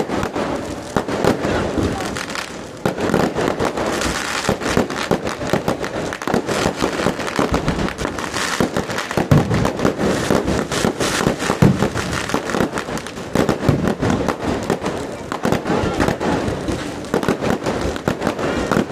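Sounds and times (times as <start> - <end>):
deep fireworks booms: 0.0 - 18.9
fireworks crackling: 0.0 - 18.9.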